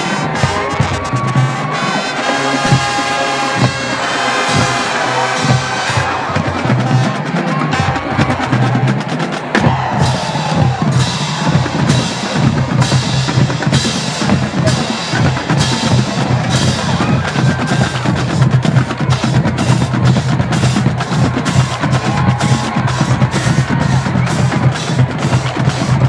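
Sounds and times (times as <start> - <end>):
marching drumline playing: 0.0 - 26.0.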